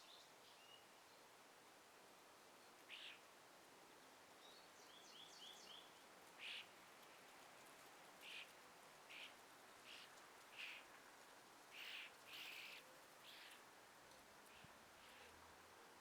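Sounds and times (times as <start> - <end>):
soft background hiss: 0.0 - 16.0.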